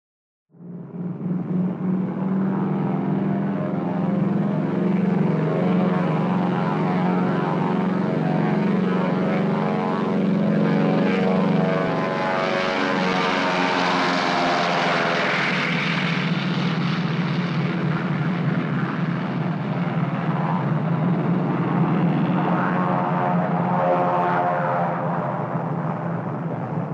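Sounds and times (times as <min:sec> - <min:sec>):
propeller airplane engine drone: 0:00.6 - 0:26.9.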